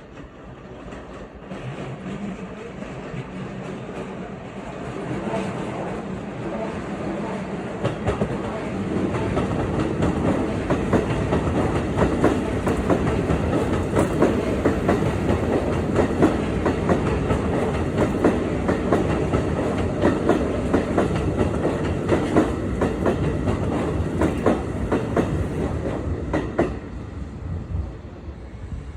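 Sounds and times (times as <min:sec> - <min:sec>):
train wheels clattering on rails: 0:00.0 - 0:06.6, 0:07.2 - 0:26.9.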